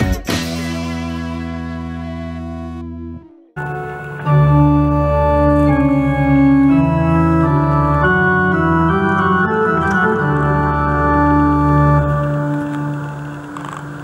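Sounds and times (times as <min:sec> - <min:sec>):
pipe organ playing full chords: 0:01.7 - 0:14.0.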